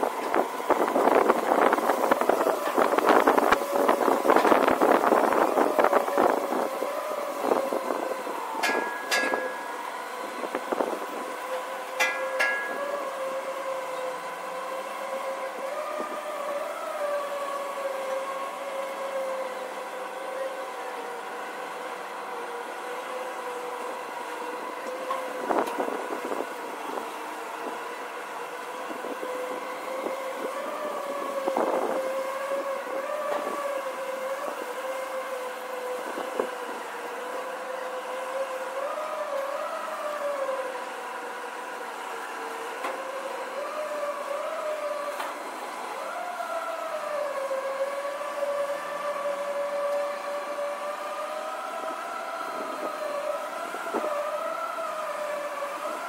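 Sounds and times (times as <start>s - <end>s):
machine drone: 0.0s - 56.0s.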